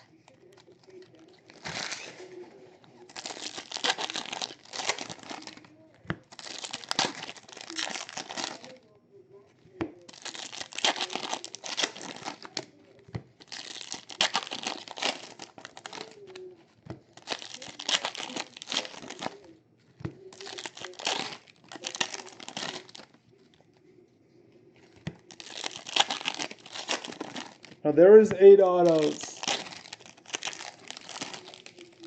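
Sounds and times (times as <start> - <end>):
foil wrappers crinkling and tearing: 0.0 - 8.9, 9.7 - 19.6, 20.2 - 23.7, 24.8 - 32.0.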